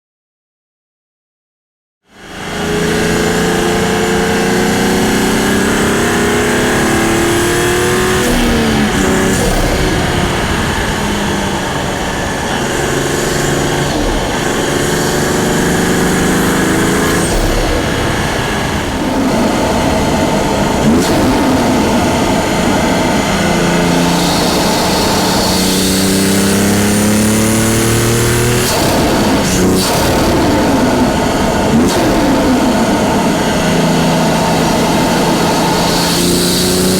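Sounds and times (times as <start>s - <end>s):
car engine accelerating through gears: 2.1s - 36.9s.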